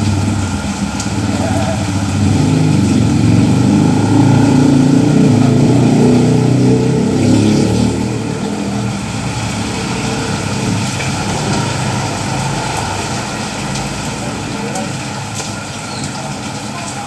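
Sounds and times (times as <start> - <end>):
rain hiss: 0.0 - 17.0
vehicle engine running: 0.0 - 17.0.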